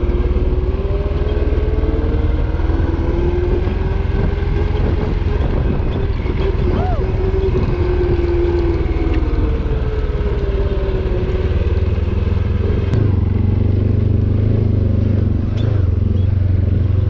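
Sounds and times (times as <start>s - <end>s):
atv engine whining: 0.0s - 17.0s.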